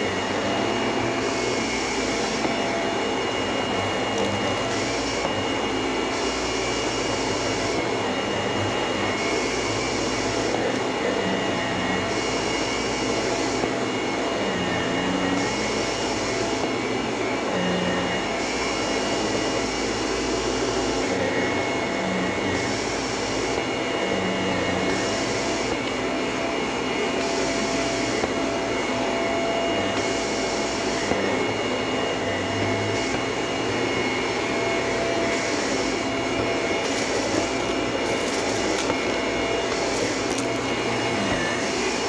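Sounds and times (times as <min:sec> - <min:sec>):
vacuum cleaner on carpet: 0:00.0 - 0:42.0.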